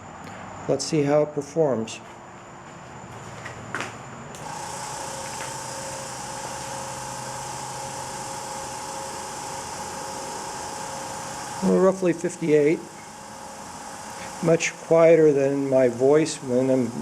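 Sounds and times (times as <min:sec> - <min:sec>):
compressor humming and hissing: 0:00.0 - 0:17.0.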